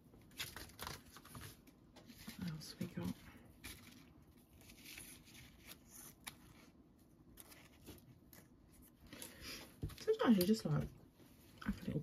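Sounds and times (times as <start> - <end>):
paper rustling: 0.2 - 10.4.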